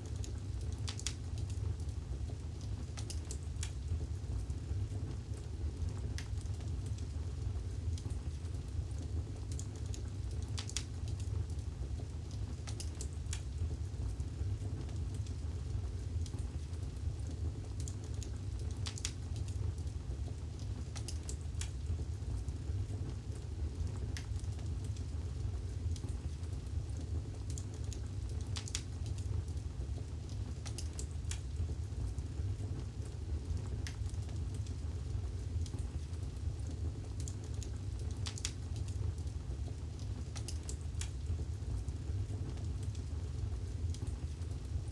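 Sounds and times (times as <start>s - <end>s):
fire crackling and popping: 0.0s - 44.9s
fire flames rumbling: 0.0s - 44.9s.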